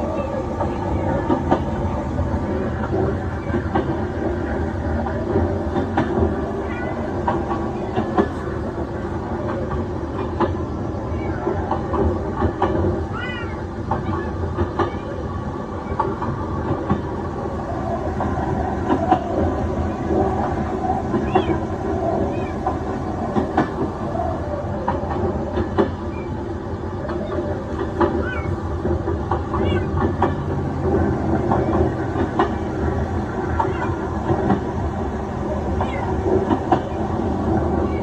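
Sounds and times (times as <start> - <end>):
clicks and knocks of train: 0.0 - 38.0
train rumbling on rails: 0.0 - 38.0.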